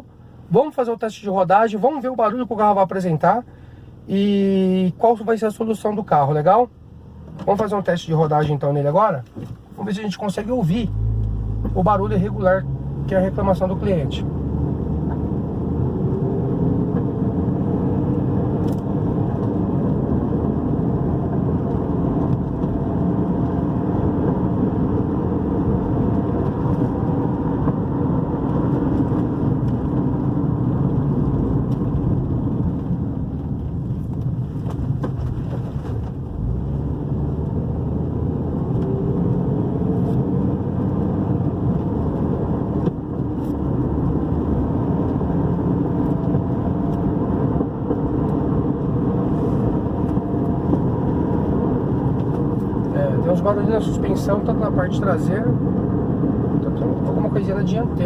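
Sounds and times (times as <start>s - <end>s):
road noise: 0.0s - 58.0s
car engine accelerating: 10.4s - 58.0s.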